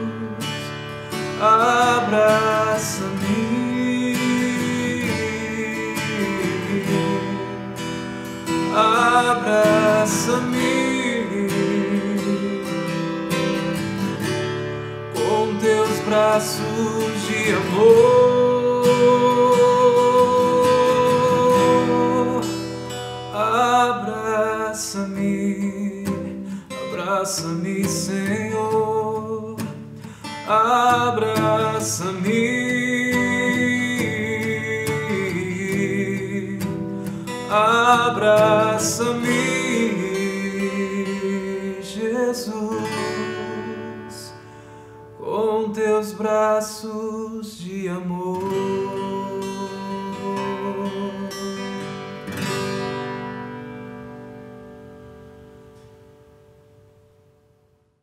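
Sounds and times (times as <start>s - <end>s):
man singing long notes: 0.0s - 0.6s, 1.2s - 7.9s, 8.6s - 13.0s, 15.2s - 44.4s, 45.2s - 51.6s
acoustic guitar strumming: 0.0s - 57.8s.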